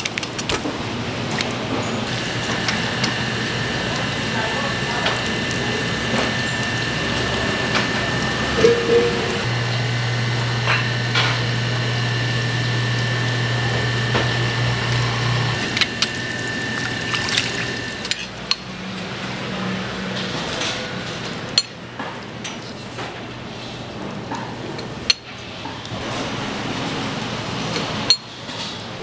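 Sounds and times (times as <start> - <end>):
low machine hum: 0.7 - 29.0.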